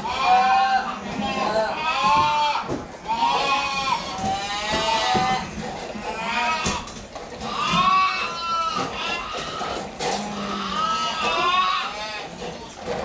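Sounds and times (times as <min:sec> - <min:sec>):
calves bawling: 0:00.0 - 0:13.0.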